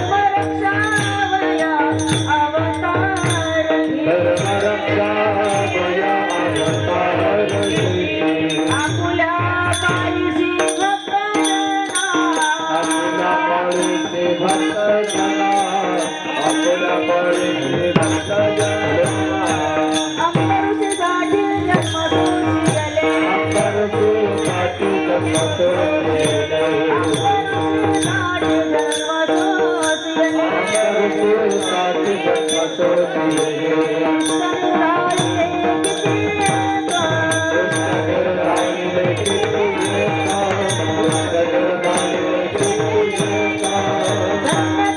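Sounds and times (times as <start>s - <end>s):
devotional singing: 0.0s - 44.9s
hand cymbals clinking: 0.0s - 44.9s.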